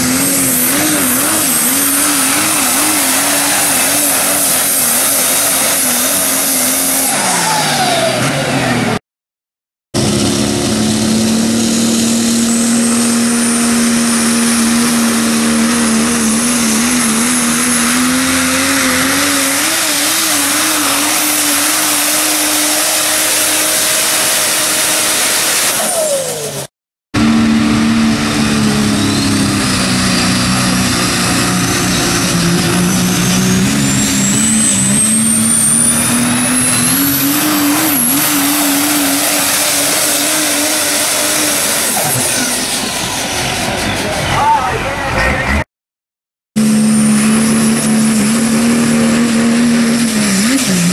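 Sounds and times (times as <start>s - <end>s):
turbocharger whistle: 0.0s - 8.8s, 10.0s - 26.6s, 27.2s - 45.5s, 46.6s - 50.9s
diesel truck engines under load: 0.0s - 9.0s, 10.0s - 45.7s, 46.6s - 50.9s.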